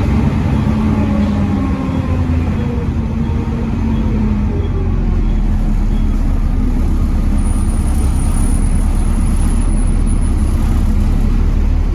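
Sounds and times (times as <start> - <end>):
diesel bus engine rumbling: 0.0 - 11.9.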